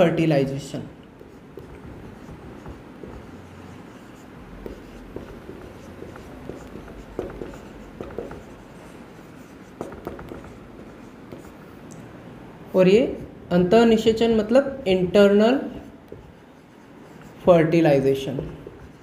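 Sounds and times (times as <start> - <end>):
marker writing on whiteboard: 1.0 - 11.8, 13.0 - 19.0.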